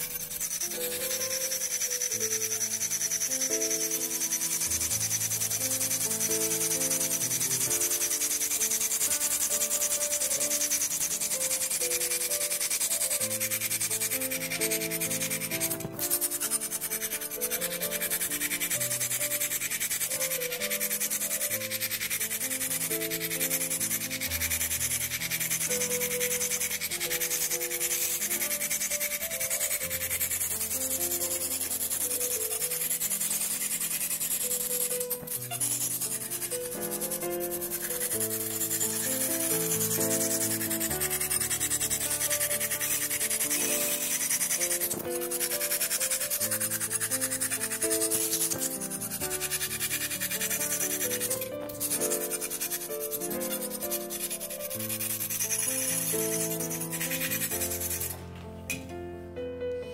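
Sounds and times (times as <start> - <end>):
probe hissing in water: 0.0 - 58.2.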